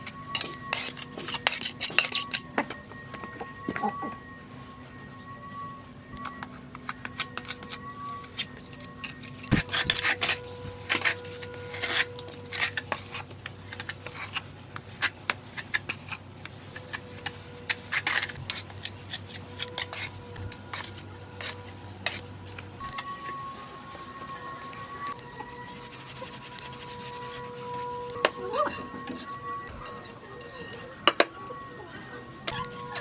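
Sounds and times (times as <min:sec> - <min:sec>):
trowel scraping and clinking: 0:00.0 - 0:04.3, 0:06.2 - 0:23.4, 0:25.1 - 0:31.4.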